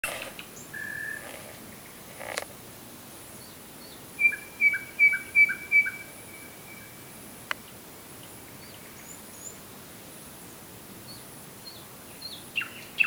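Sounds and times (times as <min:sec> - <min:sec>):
nightingale singing: 0:00.1 - 0:02.1, 0:03.1 - 0:09.6, 0:10.4 - 0:13.0.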